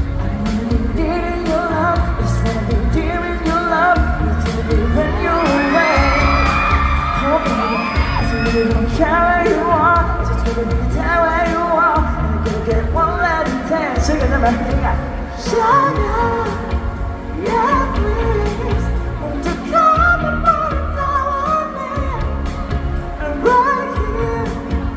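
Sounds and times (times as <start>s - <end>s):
drum and bass beat: 0.0s - 24.9s
pop song with singer: 0.0s - 24.9s.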